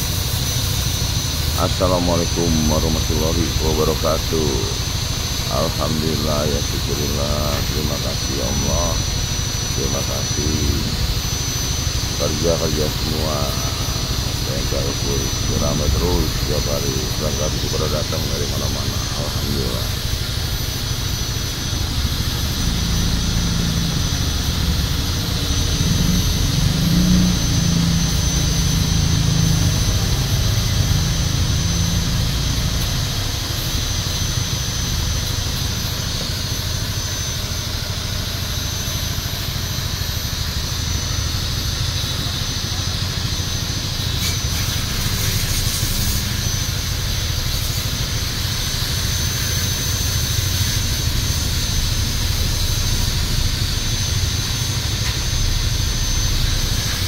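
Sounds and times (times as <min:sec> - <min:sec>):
machine drone with low rumble: 0:00.0 - 0:57.0
thin high whine: 0:00.0 - 0:57.0.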